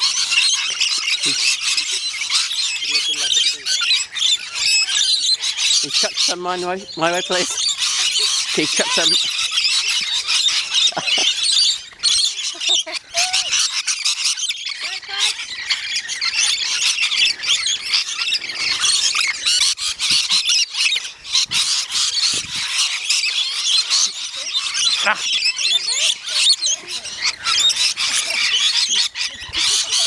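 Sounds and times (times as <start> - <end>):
flock of parrots squawking: 0.0 - 30.0.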